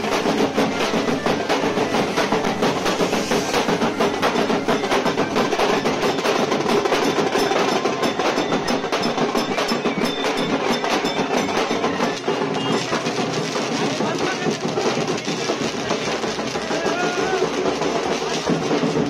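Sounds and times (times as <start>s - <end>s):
loud fast drumming: 0.0s - 19.0s.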